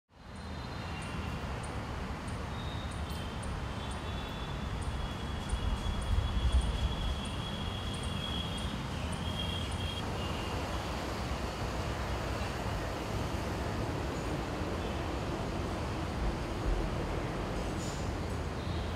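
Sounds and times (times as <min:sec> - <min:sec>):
city traffic rumble: 0:00.1 - 0:18.9.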